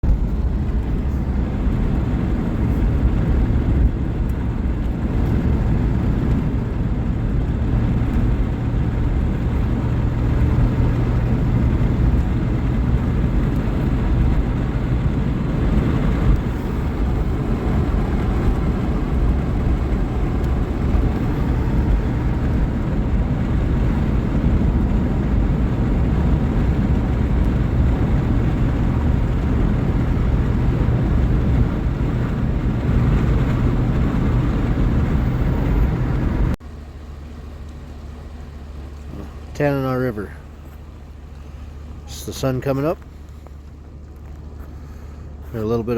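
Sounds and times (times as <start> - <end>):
vehicle engine and road drone: 0.0 - 45.9.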